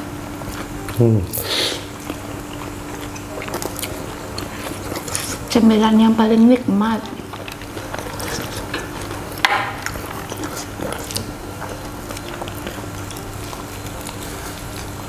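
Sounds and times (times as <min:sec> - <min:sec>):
chewing and mouth sounds: 0:00.4 - 0:05.6, 0:06.5 - 0:15.0.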